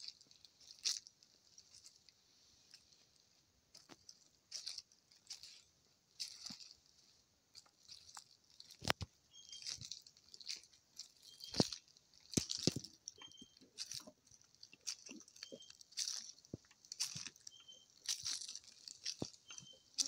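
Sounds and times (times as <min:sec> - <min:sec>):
crunching and rustling: 0:00.0 - 0:20.0.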